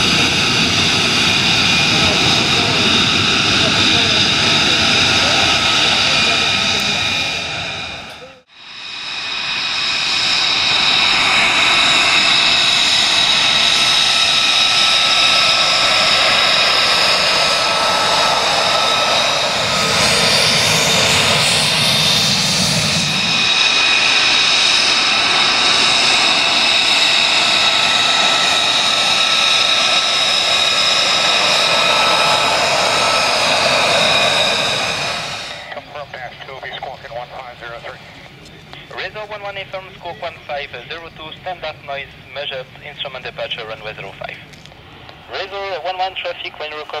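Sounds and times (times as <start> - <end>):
jet engine whine and rush: 0.0 - 47.0.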